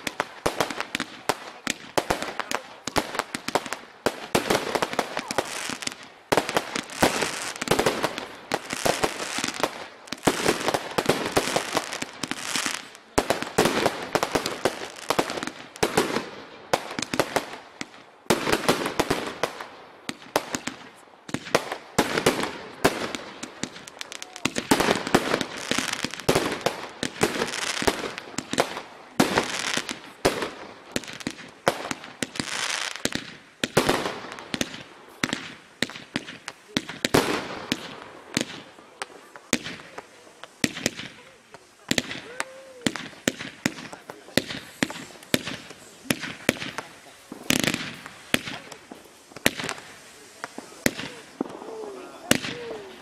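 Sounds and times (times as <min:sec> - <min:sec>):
fireworks thumps bangs and crackling: 0:00.0 - 0:53.0.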